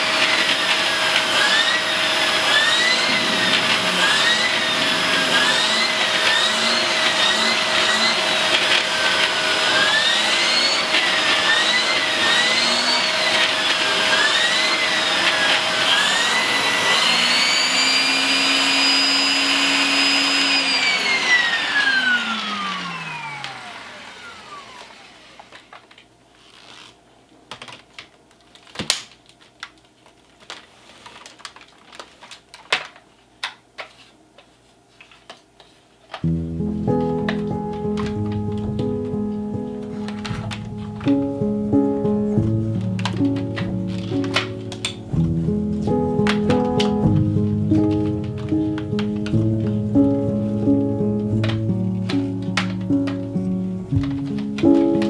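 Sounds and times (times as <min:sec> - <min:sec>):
vacuum cleaner motor whine: 0:00.0 - 0:27.0, 0:36.2 - 0:55.0.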